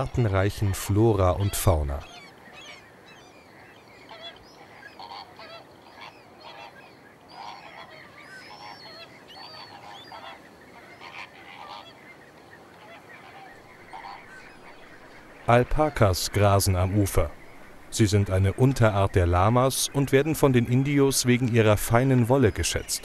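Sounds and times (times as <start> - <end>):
flamingos calling: 0.0 - 21.7.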